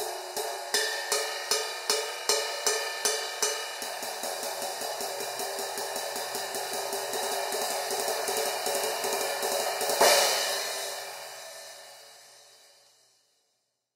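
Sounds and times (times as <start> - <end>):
riveted cymbal played with drumstick: 0.0 - 13.3.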